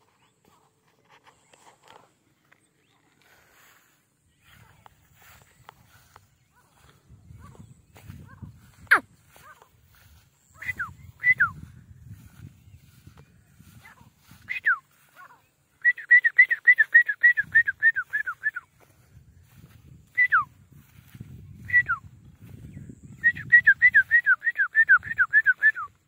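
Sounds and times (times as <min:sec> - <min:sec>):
francolin whistling calls: 0:02.8 - 0:26.0.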